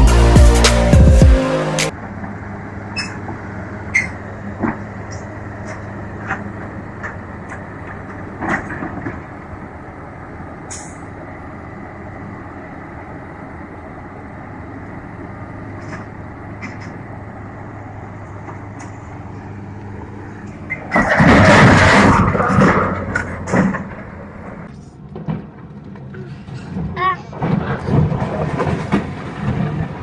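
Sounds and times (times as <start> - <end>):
large vehicle engine running: 0.0 - 30.0.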